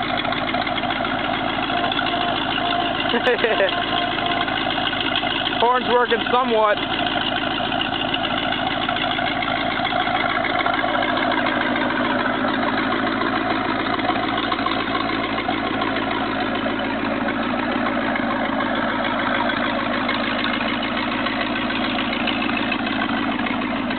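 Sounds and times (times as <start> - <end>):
boat engine idling: 0.0 - 23.9.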